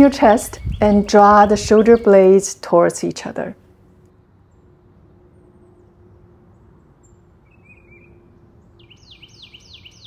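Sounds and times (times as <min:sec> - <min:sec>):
songbird singing: 0:00.0 - 0:10.0.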